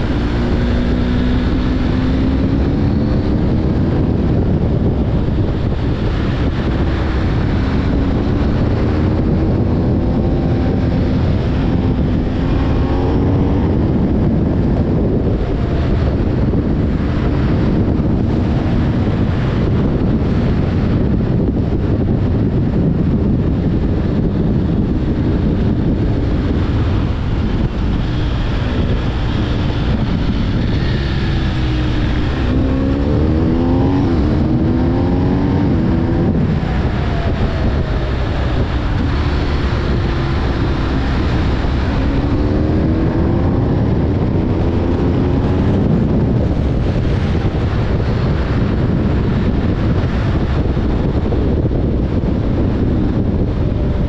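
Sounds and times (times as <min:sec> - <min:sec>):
motorcycle engine accelerating: 0:00.0 - 0:54.0
wind noise on microphone: 0:00.0 - 0:54.0.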